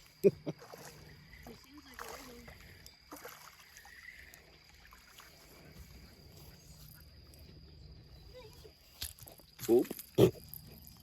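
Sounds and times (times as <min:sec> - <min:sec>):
thin steady high tone: 0:00.0 - 0:11.0.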